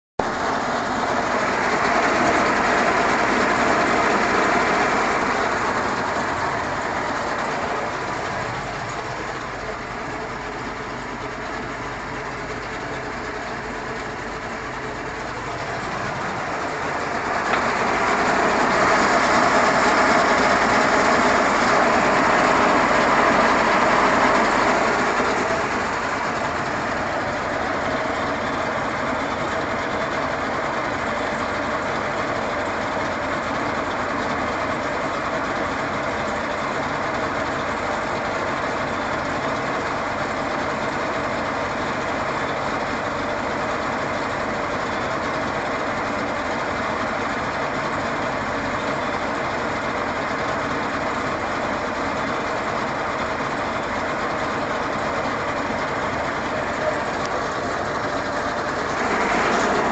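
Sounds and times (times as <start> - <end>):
marine engine idling: 0.2 - 59.9.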